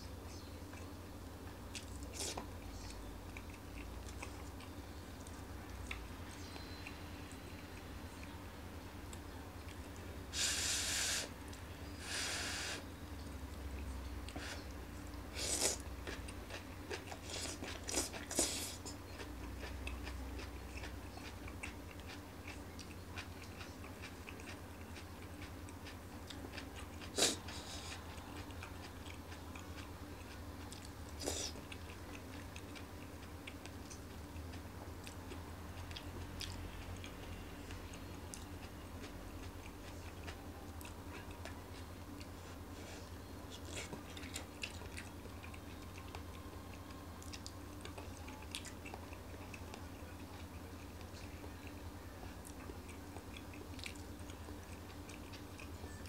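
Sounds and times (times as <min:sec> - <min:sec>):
person chewing: 0:01.7 - 0:07.0, 0:13.8 - 0:56.0.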